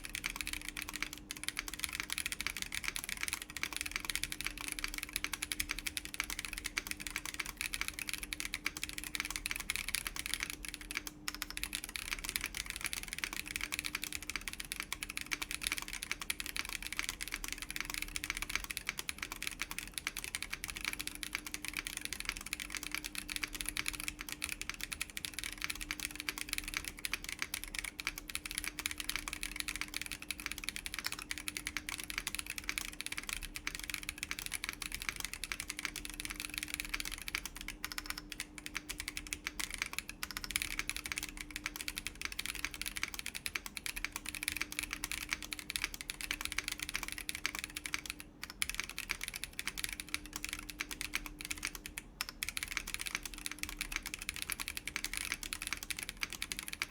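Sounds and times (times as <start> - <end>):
mechanical keyboard typing: 0.0 - 56.9.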